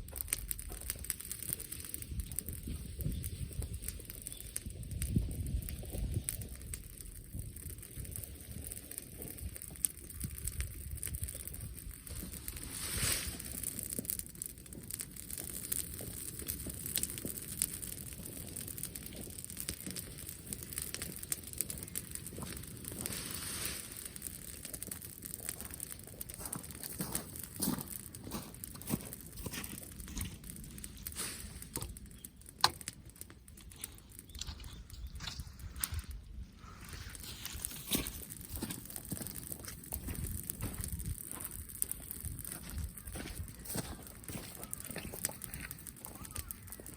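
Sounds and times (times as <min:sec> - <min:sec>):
bonfire crackling and popping: 0:00.0 - 0:46.9
low rumble of wind: 0:00.0 - 0:46.9.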